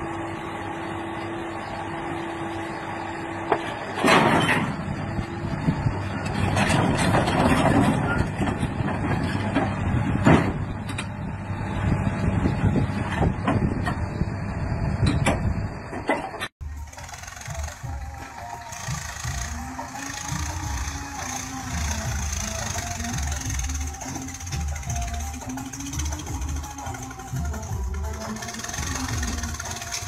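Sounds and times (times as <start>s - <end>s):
excavator engine under load: 0.0s - 30.0s.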